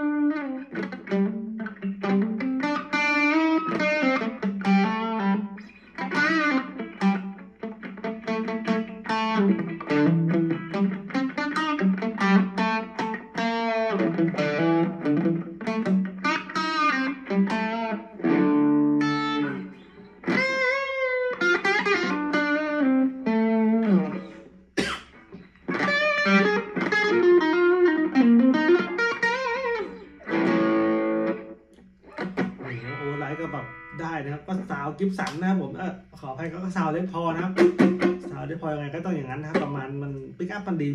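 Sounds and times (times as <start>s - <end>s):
electric guitar lead phrases: 0.0s - 40.9s.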